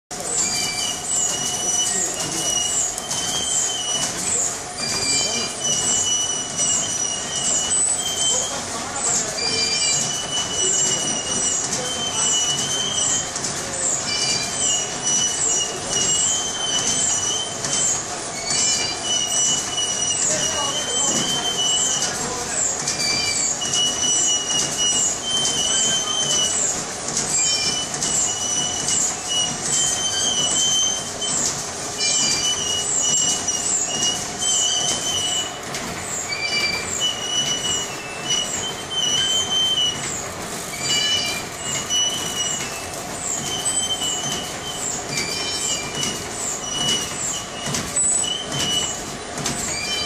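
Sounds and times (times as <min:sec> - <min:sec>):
high-pitched machine whines: 0:00.1 - 0:50.0
machine clattering: 0:00.1 - 0:50.0.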